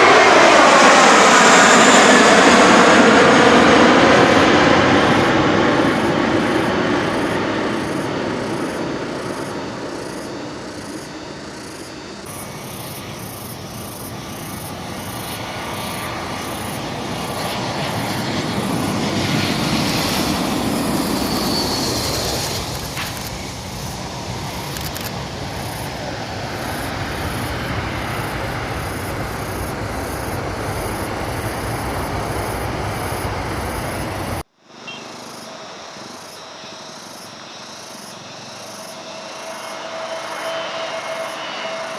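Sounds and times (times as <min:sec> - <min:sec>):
jet engines at takeoff: 0:00.0 - 0:41.9
outdoor background: 0:00.0 - 0:41.9.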